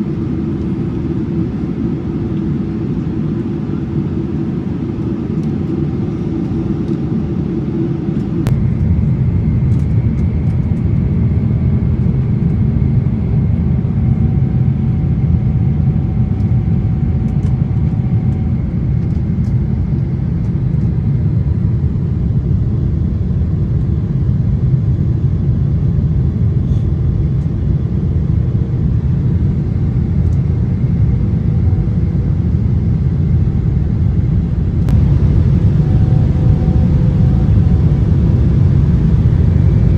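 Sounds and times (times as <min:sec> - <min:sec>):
airliner engines and airflow rumbling: 0:00.0 - 0:39.9.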